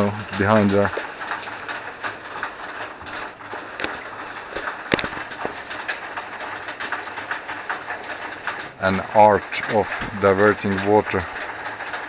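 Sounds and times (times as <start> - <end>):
water dripping onto metal: 0.0 - 12.0.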